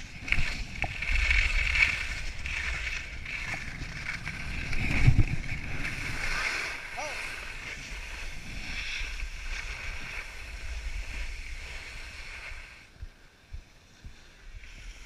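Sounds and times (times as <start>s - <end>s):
skis scraping over snow: 0.0s - 15.0s
wind rumble on microphone: 0.0s - 15.0s.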